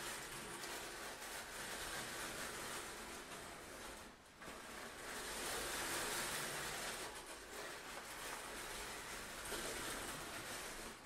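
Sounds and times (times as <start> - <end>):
curtain sliding: 0.0 - 11.0.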